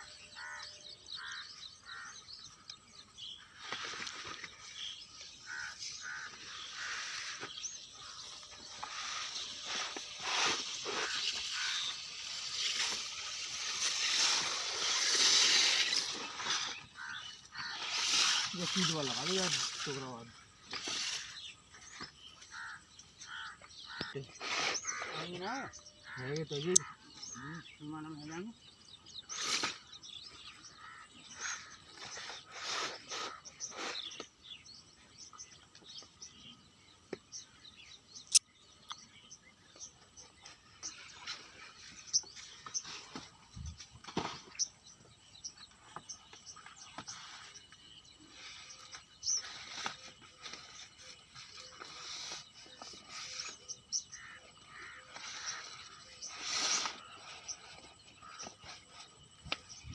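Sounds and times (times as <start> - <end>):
birds chirping faintly: 0.0 - 59.9.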